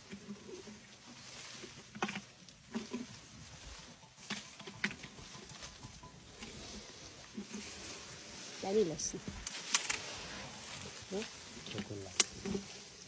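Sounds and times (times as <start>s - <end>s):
elephant snuffling: 0.0s - 13.0s
trunk rustling through grass: 0.0s - 13.0s.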